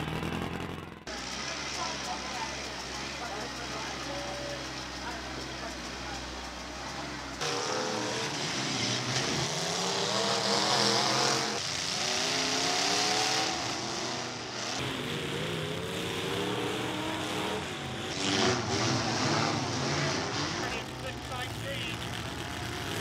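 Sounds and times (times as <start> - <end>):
car engines revving hard: 0.0 - 23.0.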